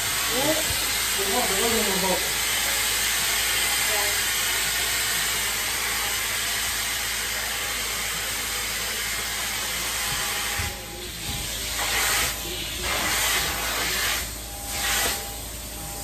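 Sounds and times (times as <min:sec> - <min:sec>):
cleaning tool spraying and sucking: 0:00.0 - 0:16.0.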